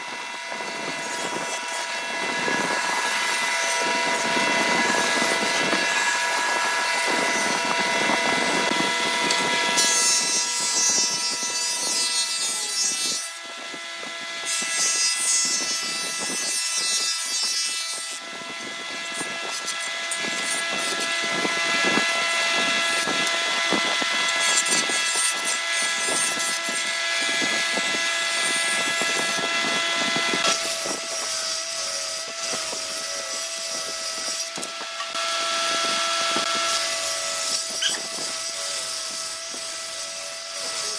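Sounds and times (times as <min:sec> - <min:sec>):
board shaving noise: 0:00.0 - 0:40.9
jointer cutter head whine: 0:00.0 - 0:40.9.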